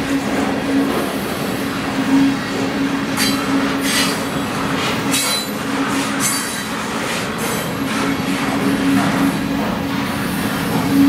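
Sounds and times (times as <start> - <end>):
freight cars rolling on rails: 0.0 - 11.0.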